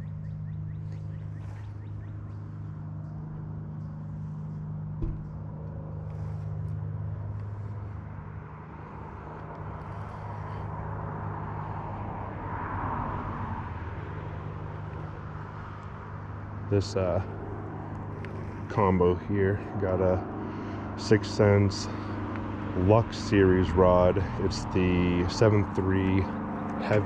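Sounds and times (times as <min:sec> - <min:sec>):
vehicle engine running: 0:00.0 - 0:12.8, 0:13.6 - 0:27.0.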